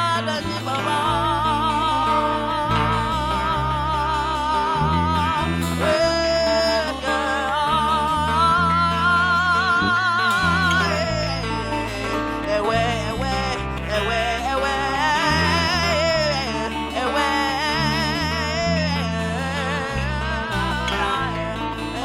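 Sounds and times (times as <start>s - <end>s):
held bass notes: 0.0s - 22.0s
woman singing with vibrato: 0.0s - 22.0s.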